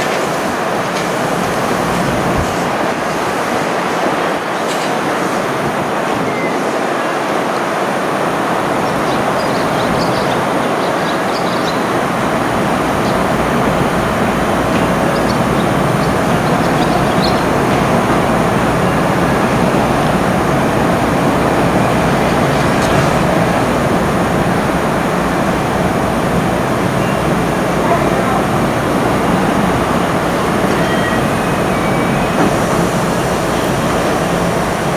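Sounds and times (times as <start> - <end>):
train wheels rumbling on rail: 0.0 - 34.9.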